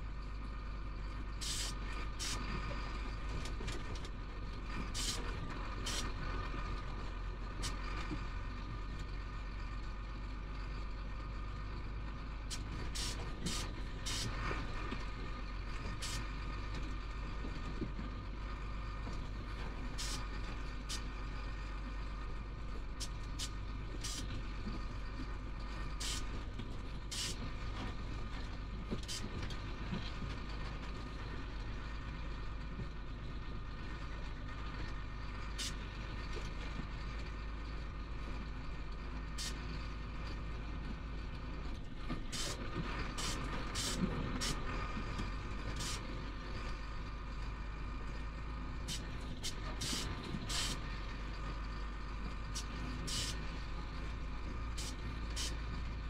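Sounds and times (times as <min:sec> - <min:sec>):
truck diesel engine drone: 0:00.0 - 0:56.0.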